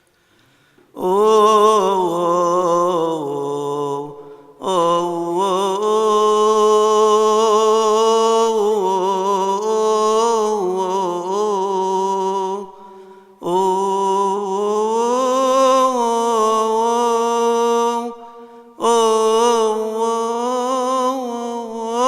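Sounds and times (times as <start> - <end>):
man chanting a hymn: 1.0 - 22.0.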